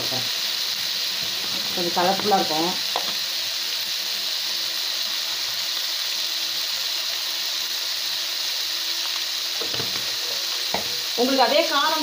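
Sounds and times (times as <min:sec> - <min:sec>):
prawns and onions sizzling in oil: 0:00.0 - 0:12.0.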